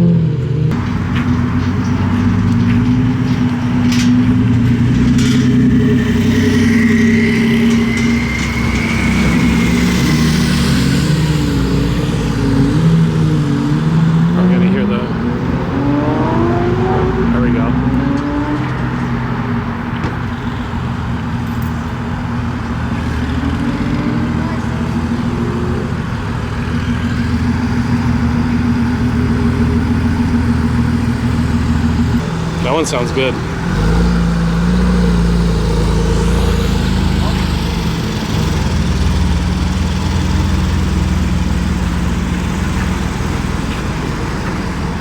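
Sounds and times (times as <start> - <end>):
car engines running at low revs: 0.0 - 45.0.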